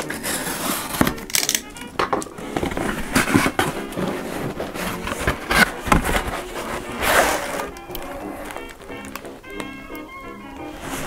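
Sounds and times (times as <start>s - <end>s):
paper and cardboard rustling: 0.0s - 9.6s, 10.6s - 11.0s.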